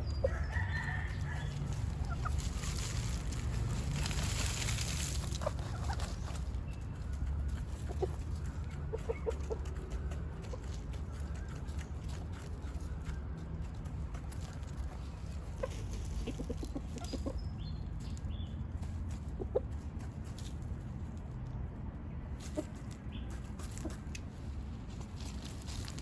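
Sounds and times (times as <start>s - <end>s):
chickens clucking: 0.0s - 20.8s, 22.3s - 25.1s.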